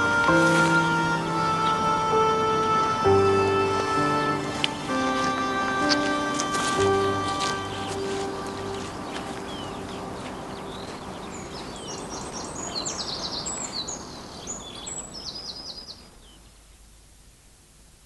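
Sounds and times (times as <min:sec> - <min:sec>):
small birds chirping: 0:00.0 - 0:17.1
steady hiss: 0:00.0 - 0:18.0.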